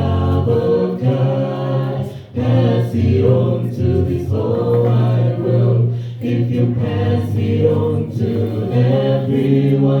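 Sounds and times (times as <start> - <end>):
gospel choir singing: 0.0 - 10.0.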